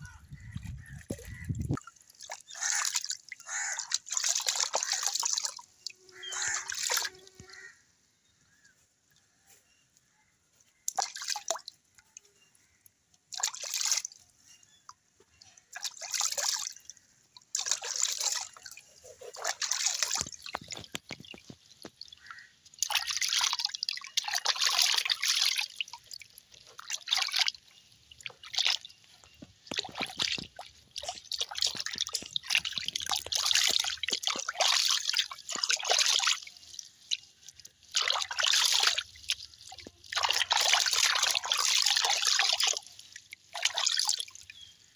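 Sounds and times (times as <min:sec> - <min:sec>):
water splashing in basin: 0:00.0 - 0:07.7, 0:10.7 - 0:12.0, 0:13.2 - 0:14.3, 0:15.5 - 0:44.9.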